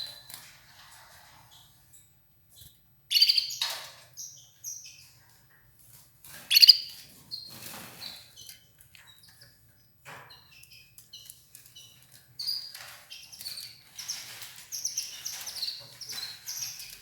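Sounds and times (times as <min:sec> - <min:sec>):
canary chirping: 0:02.5 - 0:17.0.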